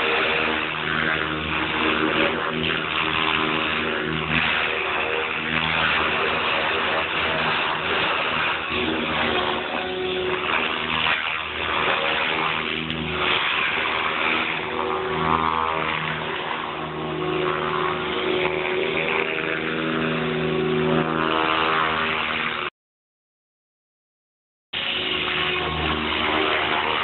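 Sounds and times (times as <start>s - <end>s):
model helicopter rotor and motor: 0.0s - 22.7s, 24.8s - 27.0s.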